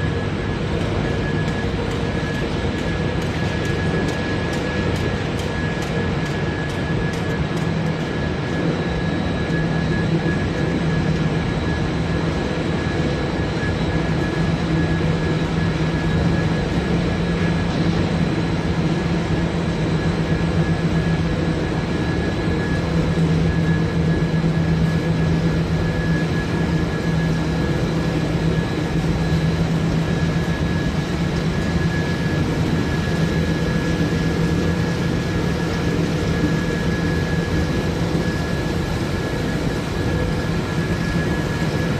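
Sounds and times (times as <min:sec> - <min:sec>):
high machine whine: 0:00.0 - 0:41.9
machinery drone: 0:00.0 - 0:41.9.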